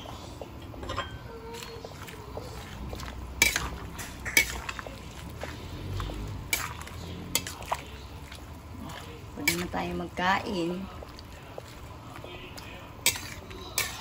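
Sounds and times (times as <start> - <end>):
utensil stirring soup in metal pot: 0.0 - 14.0.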